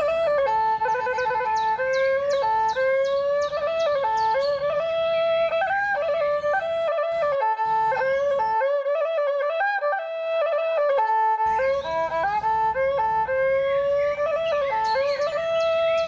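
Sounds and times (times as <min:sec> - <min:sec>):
flute-like melody: 0:00.0 - 0:16.0.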